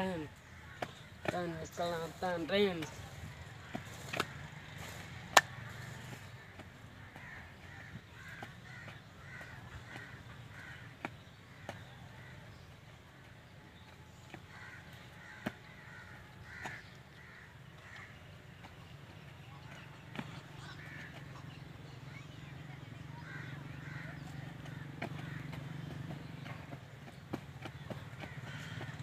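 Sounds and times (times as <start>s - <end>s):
bird calls: 0.0s - 29.0s.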